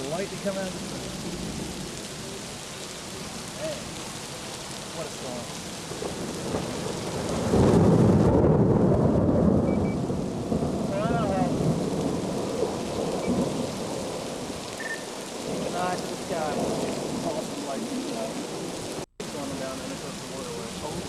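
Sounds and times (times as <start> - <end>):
heavy rain hissing: 0.0 - 21.0
thunder rumbling: 0.0 - 21.0.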